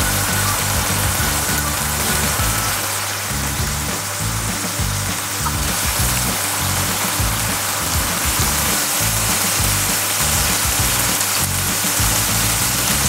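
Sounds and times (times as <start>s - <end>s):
background music: 0.0s - 13.0s
chicken sizzling in hot oil: 0.0s - 13.0s.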